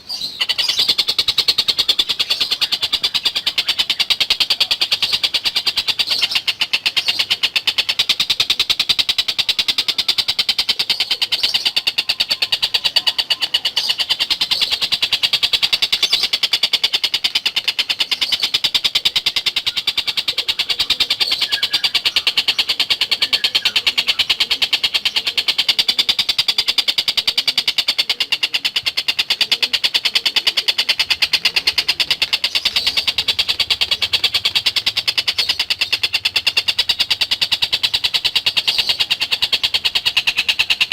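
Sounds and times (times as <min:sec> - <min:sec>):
kingfisher rattling call: 0:00.0 - 0:40.9.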